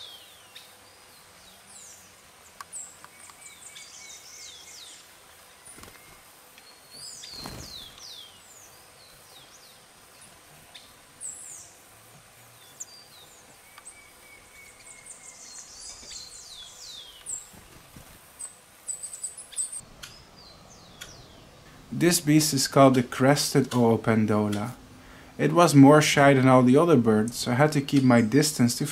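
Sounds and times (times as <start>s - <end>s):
birds chirping: 0.0s - 28.9s
faint insect hum: 0.0s - 28.9s.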